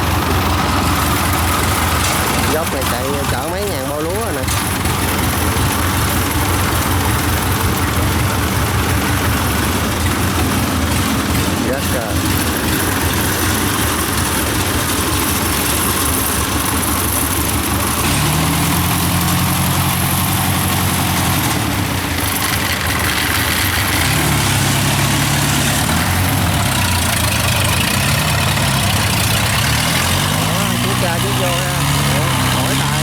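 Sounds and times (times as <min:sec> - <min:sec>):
harvester engine revving: 0:00.0 - 0:33.0.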